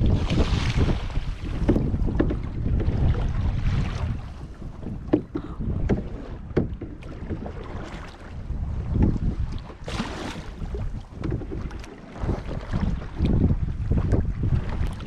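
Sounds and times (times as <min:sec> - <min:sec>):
water from paddled boat: 0:00.0 - 0:15.0
wind buffeting microphone: 0:00.0 - 0:15.0.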